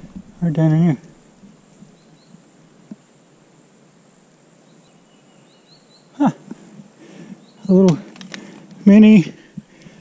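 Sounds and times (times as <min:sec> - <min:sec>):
high insect hum: 0:00.0 - 0:10.0.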